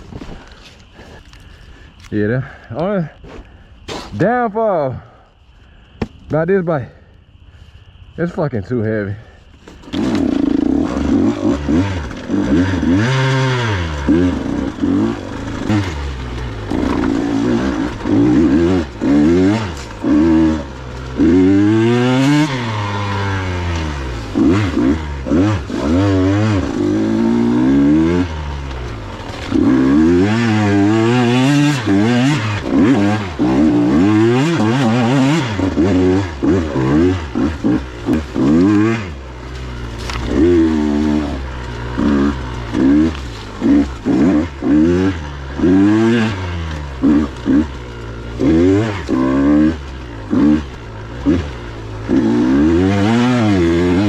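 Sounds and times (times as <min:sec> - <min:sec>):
dirt bike engine revving: 0:09.8 - 0:54.0.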